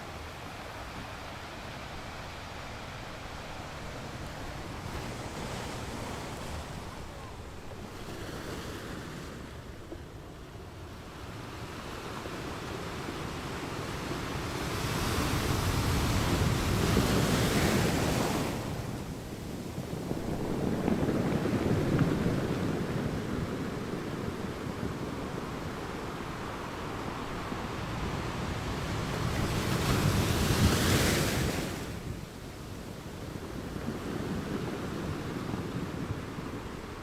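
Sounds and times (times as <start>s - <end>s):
waves washing onto beach: 0.0s - 37.0s.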